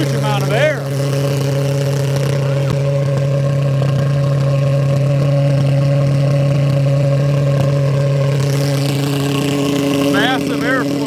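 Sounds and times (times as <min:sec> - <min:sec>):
pulse jet engine buzzing: 0:00.0 - 0:11.0.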